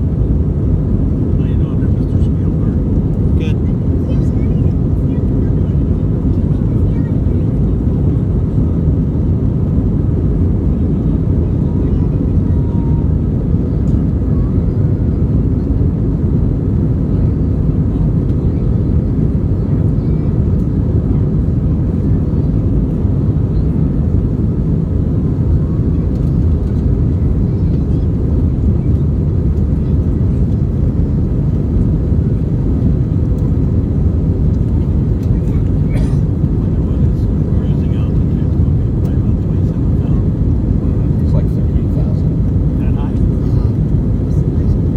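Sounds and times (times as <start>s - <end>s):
jet engine and airflow cabin noise: 0.0s - 44.9s.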